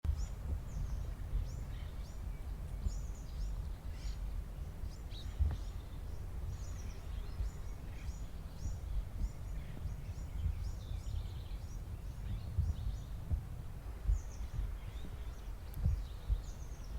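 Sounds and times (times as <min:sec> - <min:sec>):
steady low rumble: 0:00.0 - 0:16.9
birds chirping: 0:00.1 - 0:16.9.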